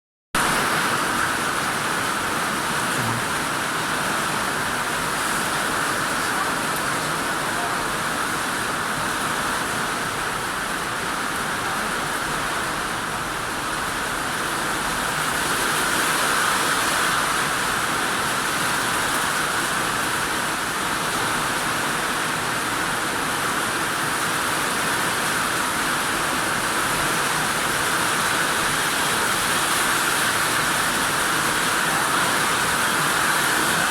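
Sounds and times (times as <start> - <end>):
heavy rain: 0.4 - 33.9.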